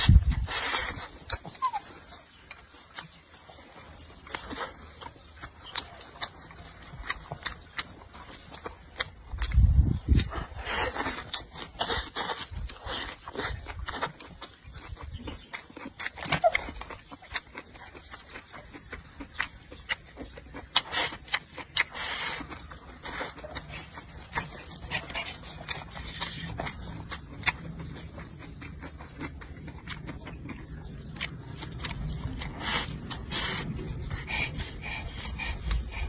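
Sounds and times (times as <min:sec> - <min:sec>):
wet chewing and lip-smacking: 0:00.0 - 0:36.0.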